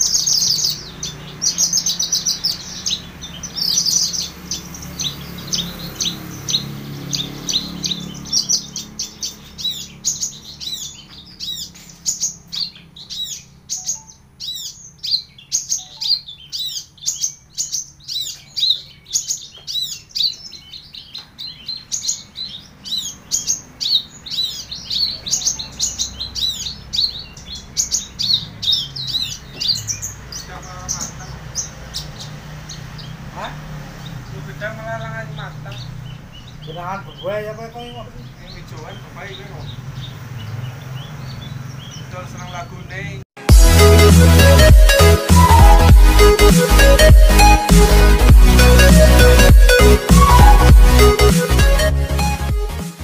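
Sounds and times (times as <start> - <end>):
bird singing rapid chirps: 0.0 - 53.0.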